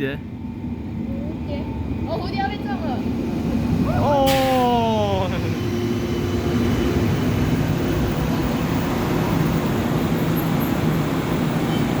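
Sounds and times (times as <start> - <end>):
tram electric hum: 0.0 - 12.0
wheels rumbling: 1.0 - 12.0.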